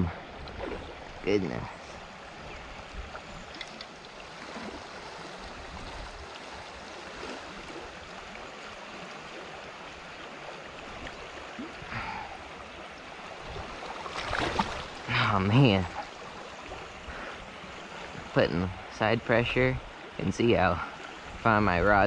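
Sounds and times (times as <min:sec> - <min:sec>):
creek water running: 0:00.0 - 0:22.0.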